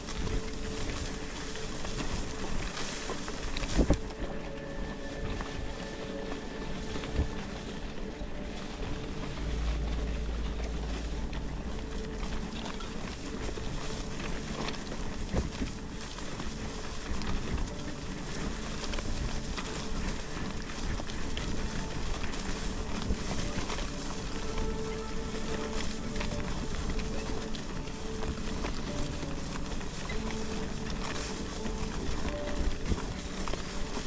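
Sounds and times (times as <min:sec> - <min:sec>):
bicycle tyre rush: 0:00.0 - 0:34.0
wind rumble on microphone: 0:00.0 - 0:34.0.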